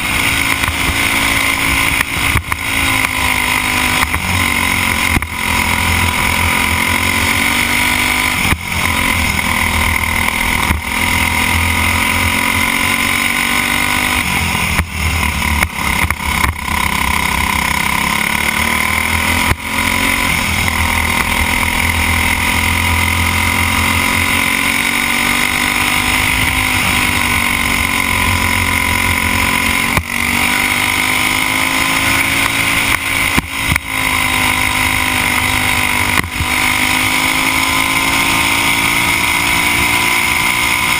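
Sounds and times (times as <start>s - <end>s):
kart engine racing: 0.0s - 40.9s.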